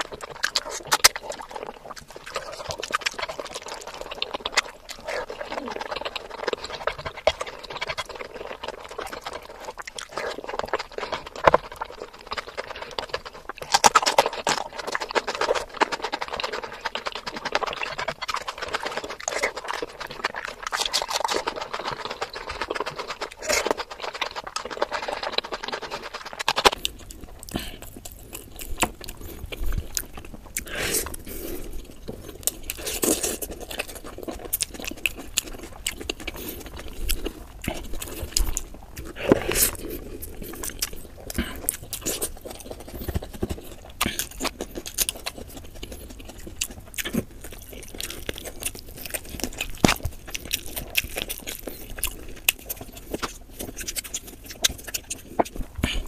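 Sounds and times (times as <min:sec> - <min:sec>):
wet chewing and crunching: 0:00.0 - 0:56.0.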